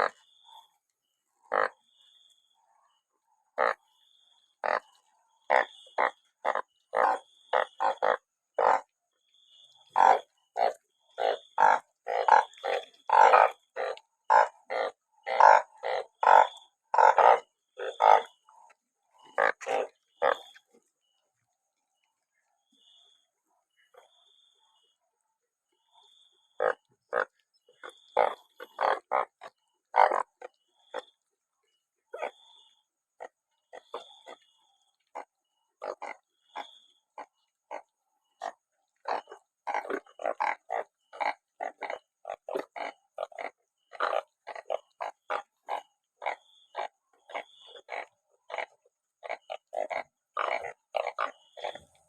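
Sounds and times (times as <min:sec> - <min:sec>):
frogs croaking: 0:00.0 - 0:52.0.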